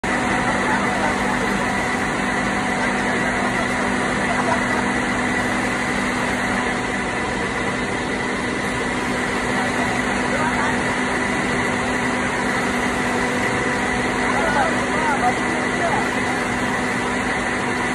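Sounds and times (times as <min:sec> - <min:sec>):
factory machinery drone: 0:00.0 - 0:17.9.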